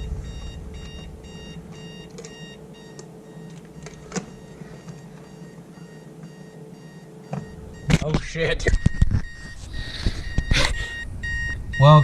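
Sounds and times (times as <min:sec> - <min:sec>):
alarm clock beeping: 0:00.0 - 0:12.0.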